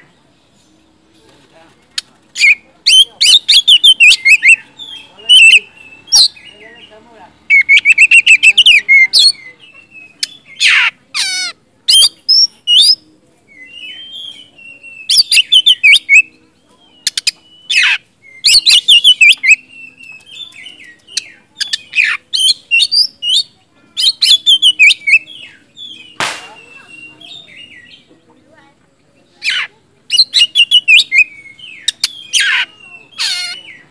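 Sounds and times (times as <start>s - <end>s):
bird singing whistles and trills: 2.4s - 6.9s, 7.5s - 10.9s, 11.9s - 28.1s, 29.3s - 33.9s.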